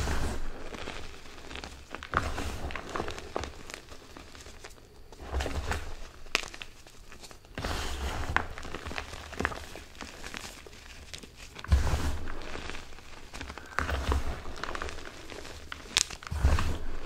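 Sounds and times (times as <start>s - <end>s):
hands crunching chalk powder: 0.0s - 17.0s.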